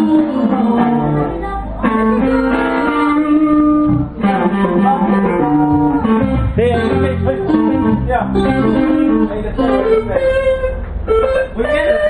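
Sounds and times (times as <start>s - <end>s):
guitars jamming with held notes: 0.0s - 12.0s.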